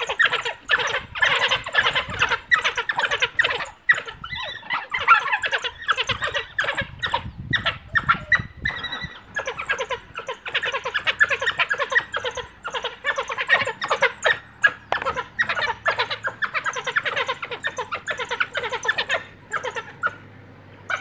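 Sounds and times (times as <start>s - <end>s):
wild dogs twittering: 0.0s - 21.0s.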